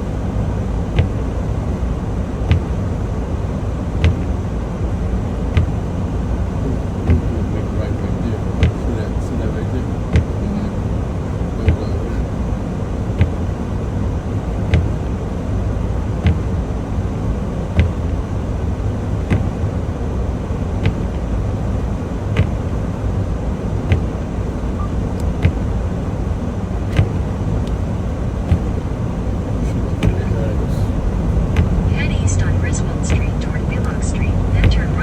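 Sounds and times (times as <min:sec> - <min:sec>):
truck engine and road rumble: 0:00.0 - 0:35.0.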